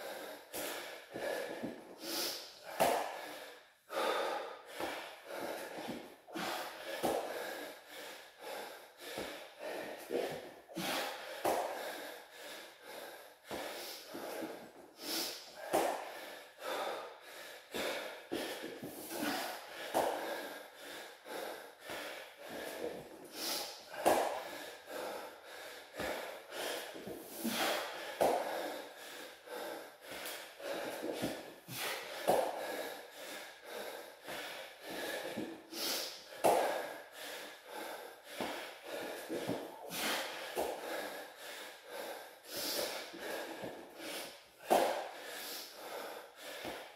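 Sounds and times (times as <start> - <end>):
man breathing hard: 0.0 - 46.9.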